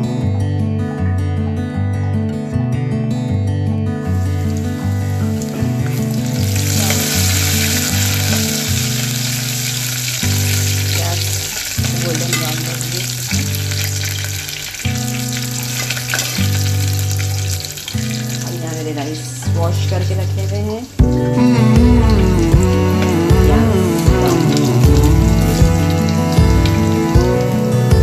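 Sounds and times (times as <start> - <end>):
guitar music: 0.0 - 28.0
onions sizzling in hot oil: 4.2 - 27.8.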